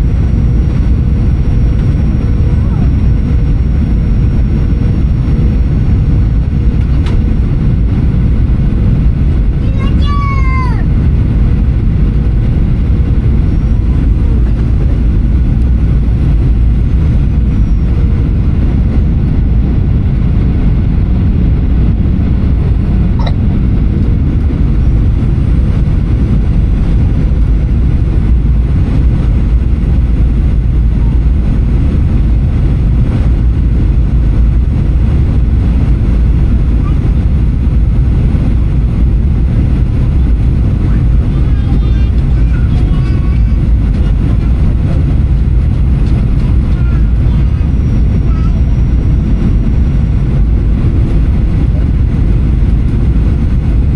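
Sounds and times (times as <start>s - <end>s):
airplane cabin rumble: 0.0s - 53.9s.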